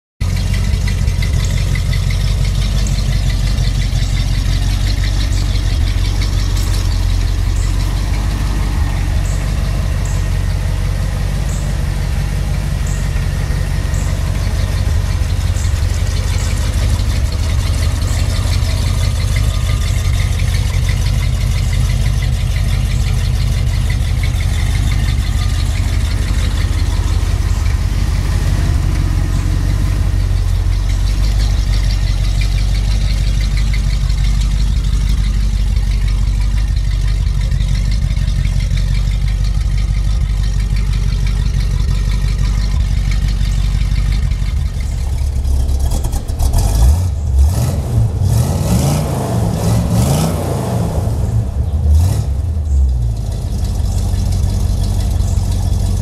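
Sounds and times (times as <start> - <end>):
car engine idling: 0.2 - 56.0.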